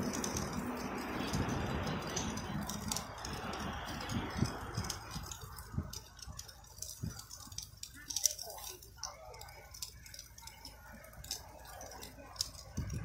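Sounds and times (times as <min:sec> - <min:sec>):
faint voices talking: 0:00.0 - 0:13.0
grill ticking and crackling: 0:00.0 - 0:13.0.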